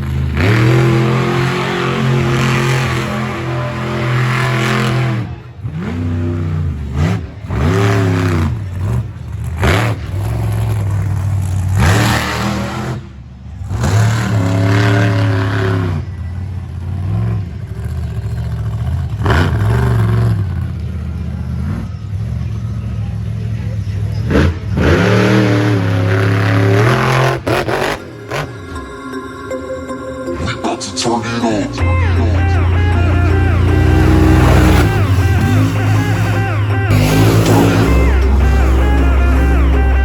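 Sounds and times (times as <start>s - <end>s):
truck engine revving hard: 0.0s - 29.2s, 30.5s - 40.0s.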